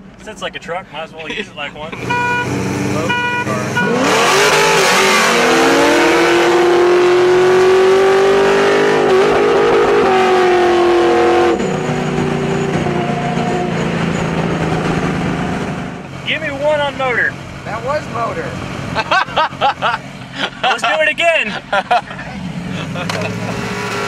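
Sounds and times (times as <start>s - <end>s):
engines at full throttle: 1.9s - 20.7s, 21.7s - 24.0s.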